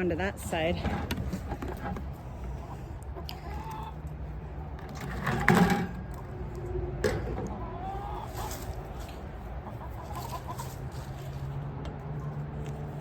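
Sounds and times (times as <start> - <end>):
chickens clucking: 0.0 - 11.6.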